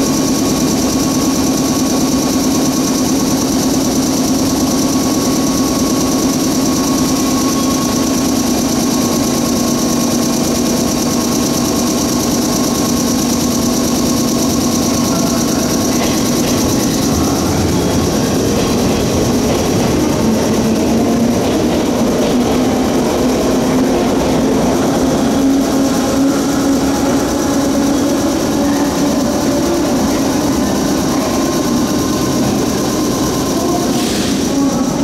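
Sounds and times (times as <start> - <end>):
train machinery hum with whine: 0.0 - 35.0
train pulling away: 0.0 - 35.0.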